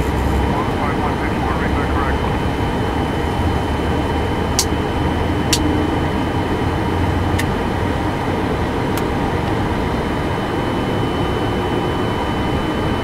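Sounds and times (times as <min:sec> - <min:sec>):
flight deck drone: 0:00.0 - 0:13.0.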